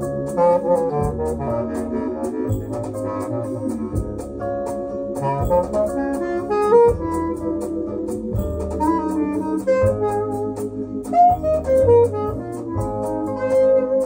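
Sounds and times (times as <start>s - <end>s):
jazz melody line: 0.0s - 14.0s
sustained bass notes: 0.0s - 14.0s.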